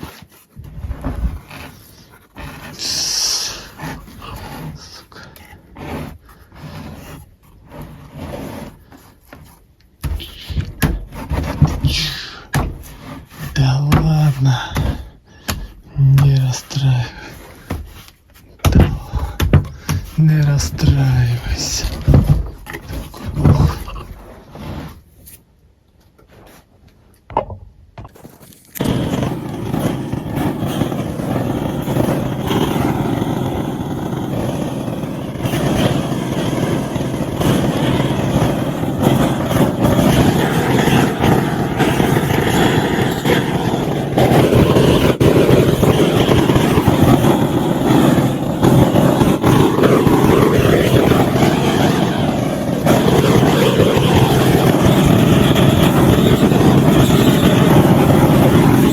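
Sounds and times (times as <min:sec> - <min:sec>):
chainsaw carving wood: 0:00.0 - 0:25.0, 0:28.8 - 0:58.9.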